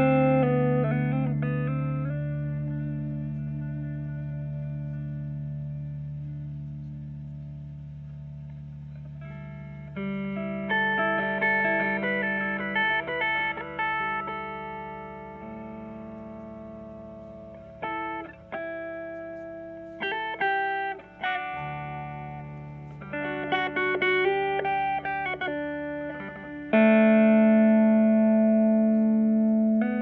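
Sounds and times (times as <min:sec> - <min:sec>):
plucked guitar music: 0:00.0 - 0:30.0.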